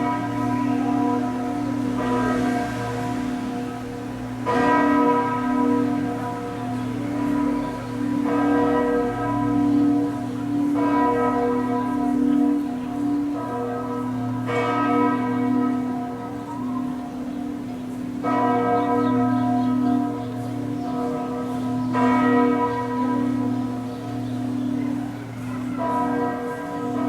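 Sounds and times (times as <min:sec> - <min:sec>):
church bells tolling: 0:00.0 - 0:27.0.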